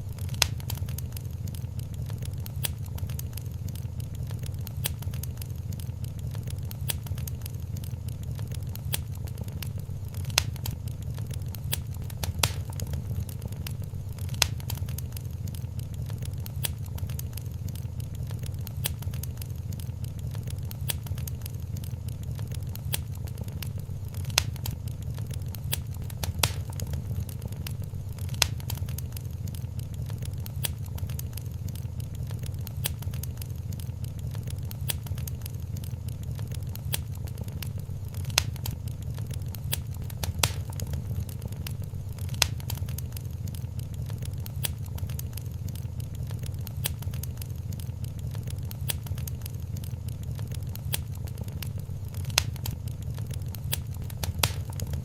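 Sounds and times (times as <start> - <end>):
fire flames rumbling: 0.0 - 55.0
fire ticking: 0.0 - 55.0
wood fire popping: 0.0 - 55.0.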